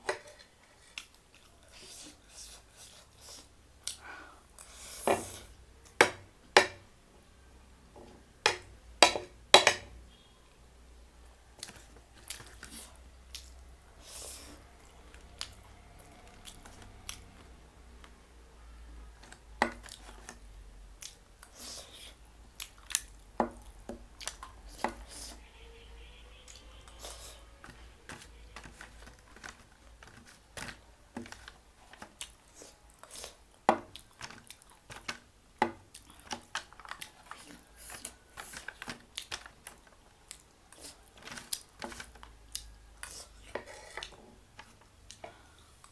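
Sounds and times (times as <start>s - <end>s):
person chewing with crunches: 0.0s - 5.9s, 11.6s - 17.6s, 19.2s - 25.4s, 26.5s - 35.2s, 35.8s - 45.9s.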